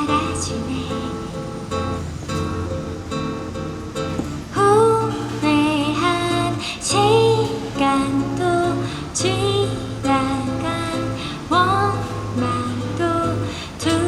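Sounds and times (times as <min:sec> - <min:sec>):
woman singing slow song: 0:00.0 - 0:02.0, 0:04.5 - 0:14.0
strummed acoustic guitar: 0:00.0 - 0:14.0.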